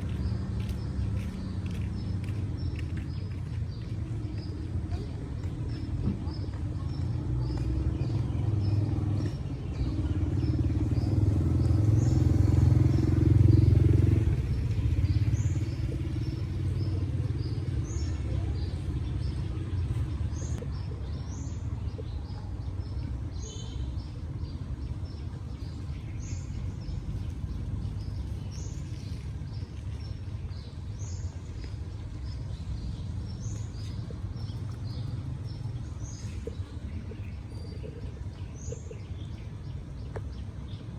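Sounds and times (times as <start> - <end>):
small birds chirping: 0.0 - 40.9
vehicle engine rumble passing: 0.0 - 40.9.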